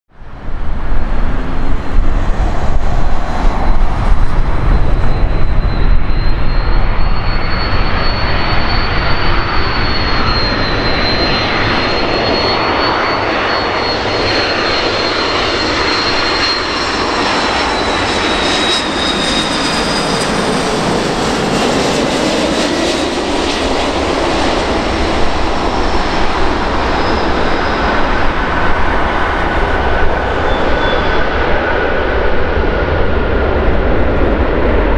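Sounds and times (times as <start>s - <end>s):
jet engines with high fan whine: 0.1s - 34.9s.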